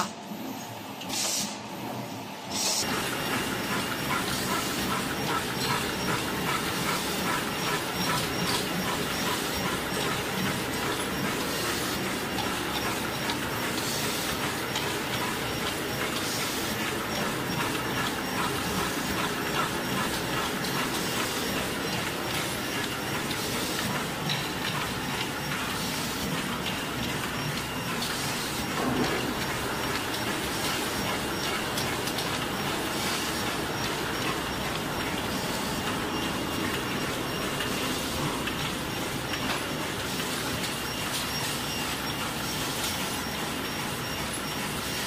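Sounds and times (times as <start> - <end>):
machinery clattering: 2.8 - 45.0.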